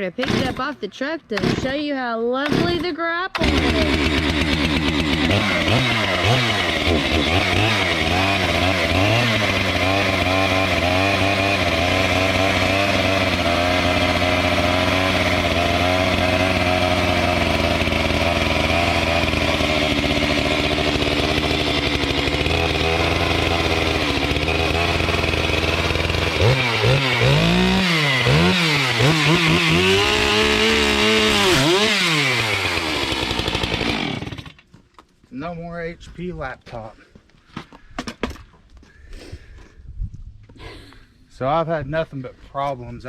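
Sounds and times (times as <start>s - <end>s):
chainsaw cutting: 0.0s - 34.8s.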